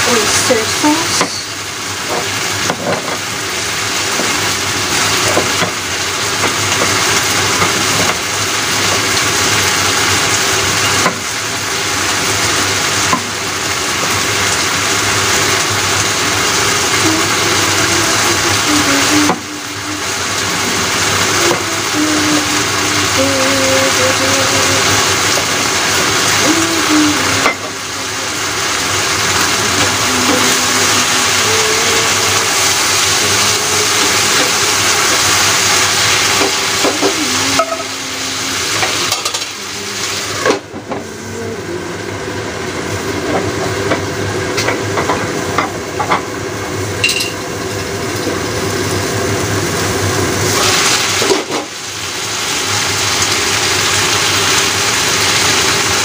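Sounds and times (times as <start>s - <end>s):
food sizzling in a frying pan: 0.0s - 41.0s, 41.9s - 56.0s.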